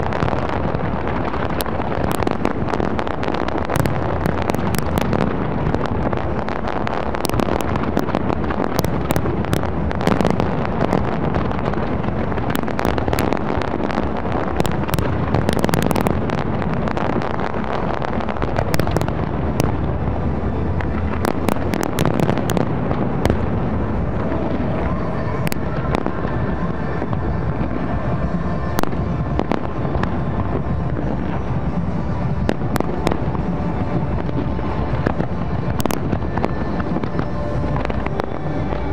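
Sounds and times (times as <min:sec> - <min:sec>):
continuous rumbling wash: 0:00.0 - 0:38.9.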